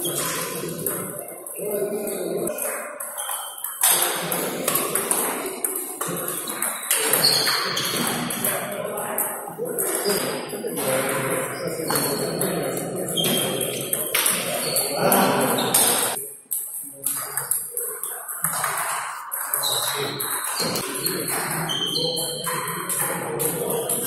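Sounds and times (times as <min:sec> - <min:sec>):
background voices: 0:03.8 - 0:24.0.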